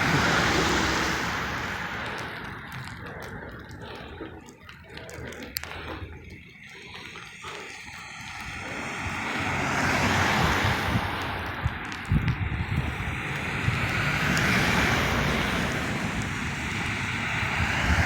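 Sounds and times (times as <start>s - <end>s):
car passing on slushy street: 0.0s - 18.0s.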